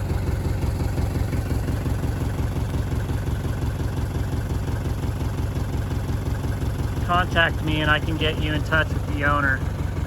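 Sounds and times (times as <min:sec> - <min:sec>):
diesel engine idling with clatter: 0:00.0 - 0:10.0.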